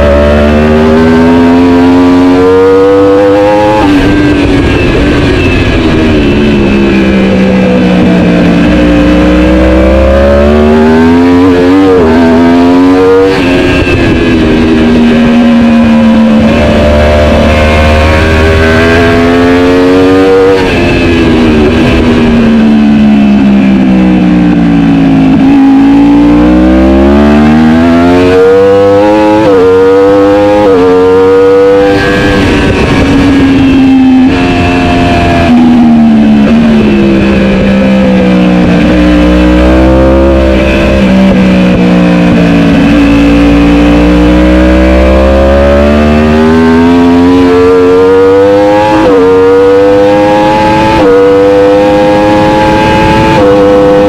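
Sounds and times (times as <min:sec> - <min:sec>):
superbike engine revving: 0:00.0 - 0:54.0.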